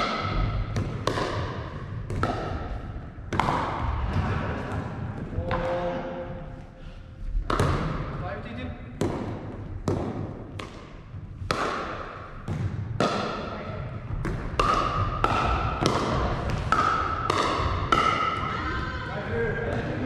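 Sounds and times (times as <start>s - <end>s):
paddles hitting plastic ball: 0.0s - 5.7s, 7.3s - 8.2s, 8.9s - 18.5s
ball bouncing on wooden floor: 0.0s - 6.0s, 7.3s - 18.5s.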